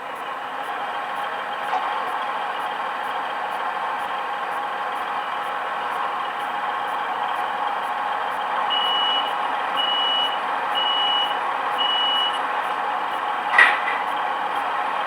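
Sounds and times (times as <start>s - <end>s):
diesel engine idling: 0.0s - 15.0s
high warning beeps: 2.1s - 14.8s.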